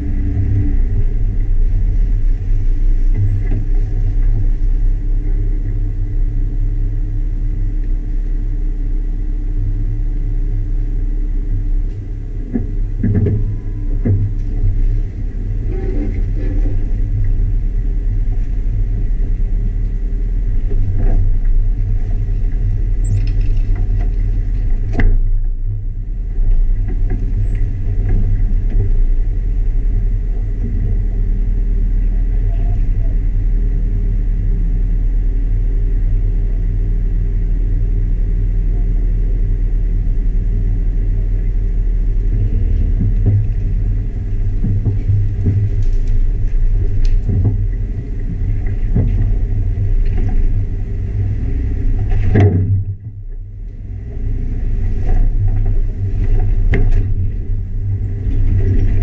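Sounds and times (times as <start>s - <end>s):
engine low rumble: 0.0s - 59.0s.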